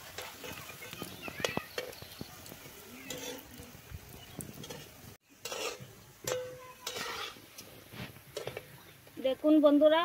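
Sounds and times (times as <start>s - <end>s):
skimmer scraping a pan: 0.0s - 9.0s
dough deep-frying in oil: 0.0s - 10.0s.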